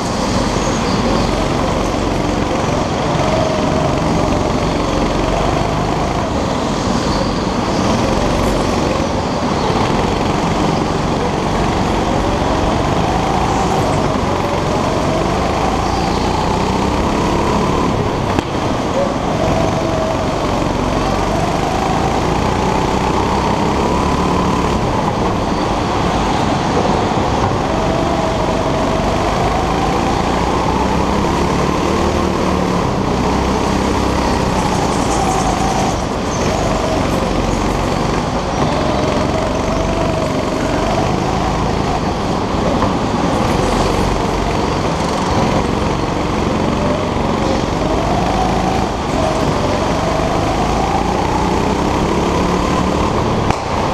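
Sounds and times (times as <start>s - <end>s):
go-kart engine revving: 0.0s - 53.9s.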